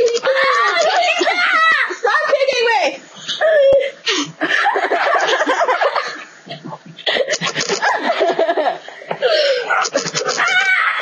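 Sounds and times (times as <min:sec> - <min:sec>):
girl laughing: 0:00.0 - 0:01.9, 0:03.3 - 0:11.0.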